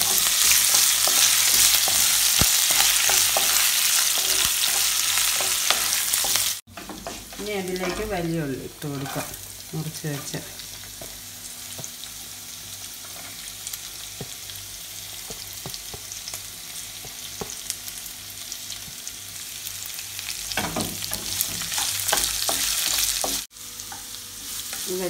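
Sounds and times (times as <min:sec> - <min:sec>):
hot oil sizzling with pops: 0:00.0 - 0:25.0
onions crackling in pan: 0:00.0 - 0:25.0.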